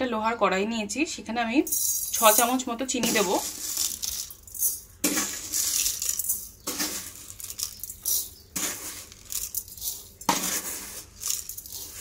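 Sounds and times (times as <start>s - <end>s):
sugar pattering onto metal pan: 1.8s - 12.0s.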